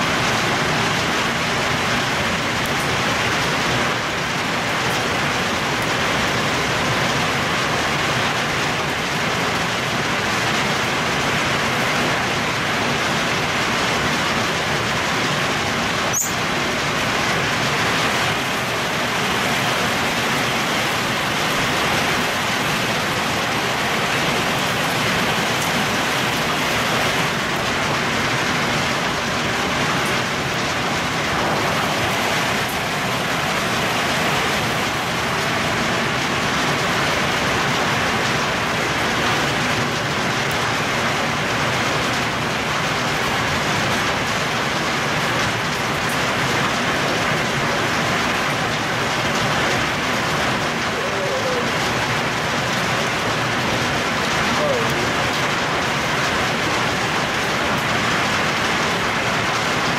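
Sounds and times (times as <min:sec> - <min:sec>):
heavy rain and hail: 0:00.0 - 0:59.9.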